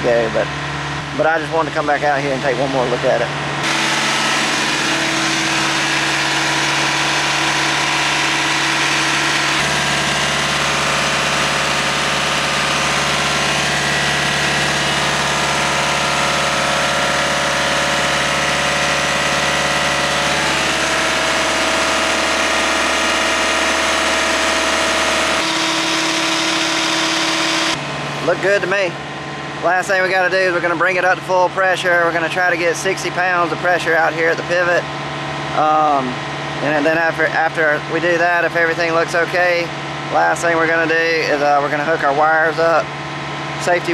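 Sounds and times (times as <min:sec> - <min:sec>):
irrigation pump humming drone: 0:00.0 - 0:43.9.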